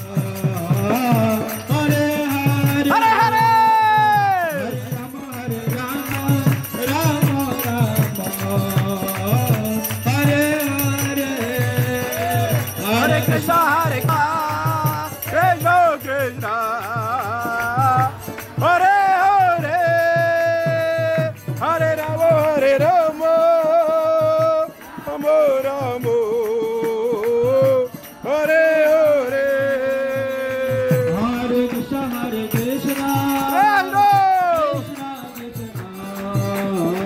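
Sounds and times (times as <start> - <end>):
voices chanting a mantra: 0.0 - 20.3, 21.8 - 37.0
percussion steady beat: 0.0 - 37.0.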